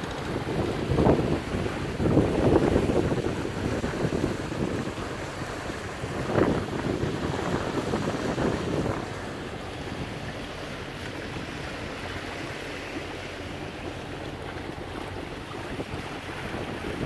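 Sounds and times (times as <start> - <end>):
water rushing along boat hull: 0.0 - 17.0
wind: 0.0 - 17.0.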